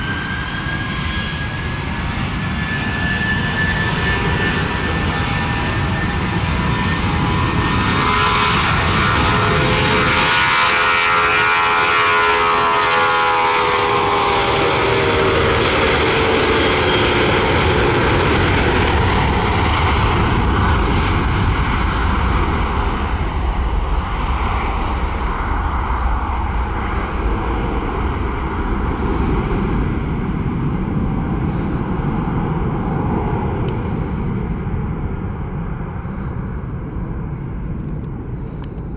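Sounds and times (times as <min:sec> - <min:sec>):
jet engine roar at takeoff: 0:00.0 - 0:38.9.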